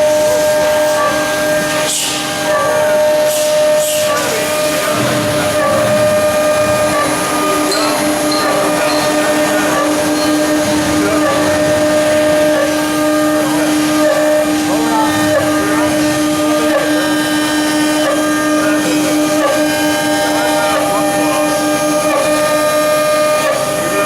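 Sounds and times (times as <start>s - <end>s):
cutting noise: 0.0s - 24.0s
router spindle whine: 0.0s - 24.0s.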